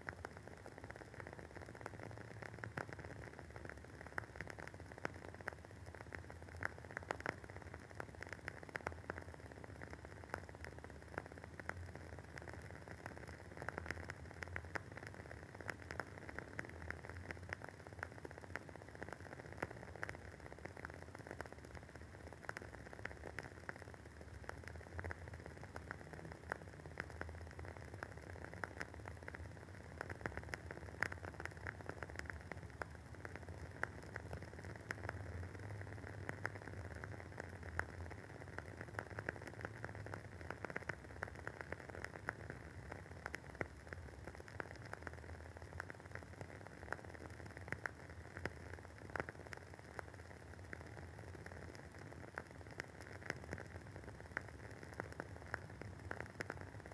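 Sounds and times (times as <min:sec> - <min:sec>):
candle wick crackling and popping: 0:00.0 - 0:56.9.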